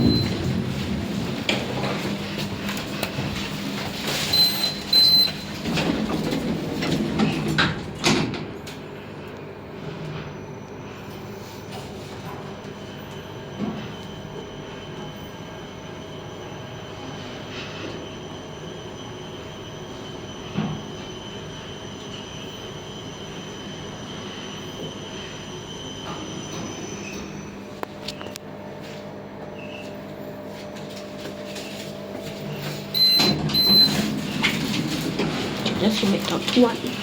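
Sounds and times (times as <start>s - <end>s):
lift motor humming and whining: 0.0s - 37.0s.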